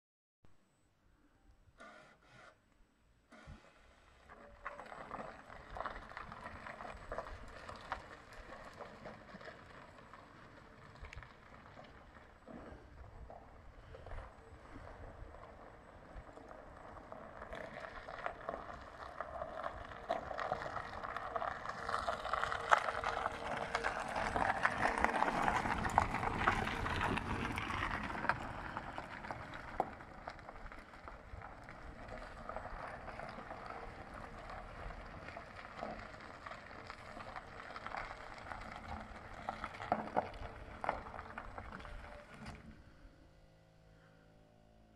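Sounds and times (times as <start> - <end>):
tyres crunching on gravel: 3.4 - 43.2.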